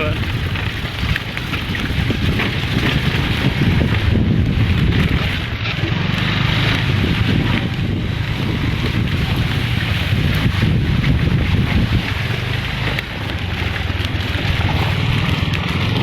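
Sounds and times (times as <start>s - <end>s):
low rumble: 0.0s - 16.0s
wind buffeting microphone: 0.0s - 16.0s.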